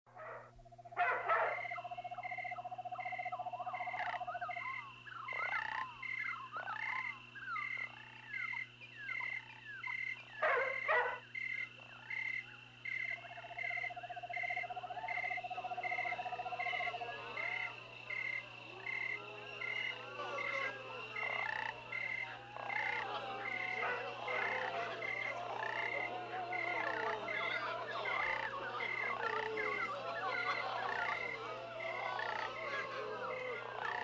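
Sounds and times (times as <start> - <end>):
croaking and gliding calls: 0.1 - 34.0
insect drone: 0.2 - 34.0
regular insect chirp: 0.2 - 34.0
frog pulsed trill: 1.6 - 34.0.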